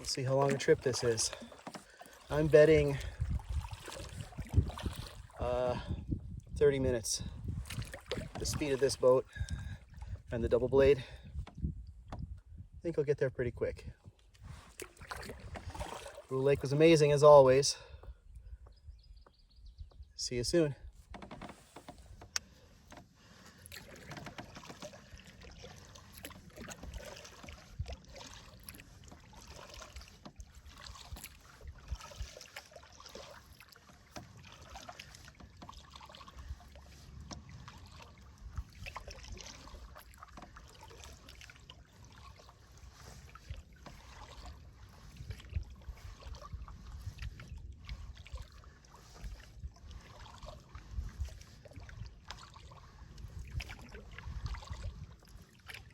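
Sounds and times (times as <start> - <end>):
paddle splashing in water: 0.0 - 5.9, 7.4 - 10.3, 14.3 - 17.2, 20.9 - 55.9
water trickling along hull: 0.0 - 55.9.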